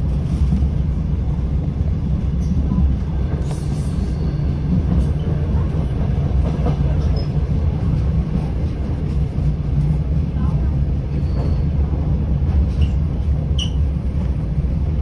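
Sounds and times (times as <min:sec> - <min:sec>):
train engine and wheels rumbling: 0:00.0 - 0:15.0.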